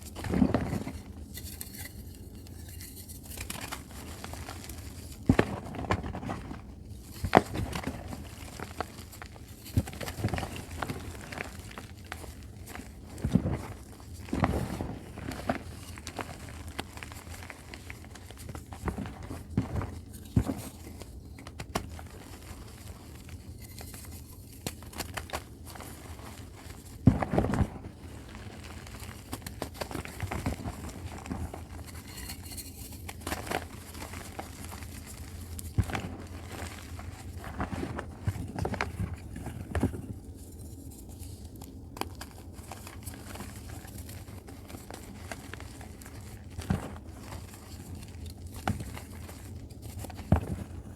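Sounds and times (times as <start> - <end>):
chalk crumbling and crunching: 0.0 - 50.9.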